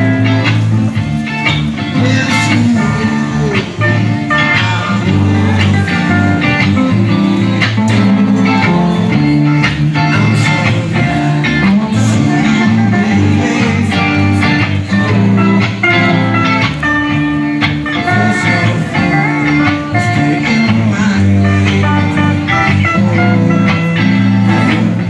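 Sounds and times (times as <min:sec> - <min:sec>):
electric guitars: 0:00.0 - 0:25.0
live rock band playing: 0:00.0 - 0:25.0.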